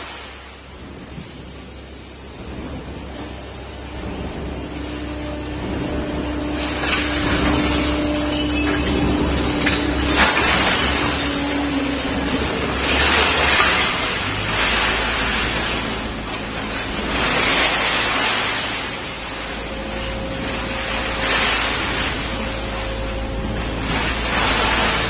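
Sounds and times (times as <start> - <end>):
baler machine hum: 0.0 - 25.0.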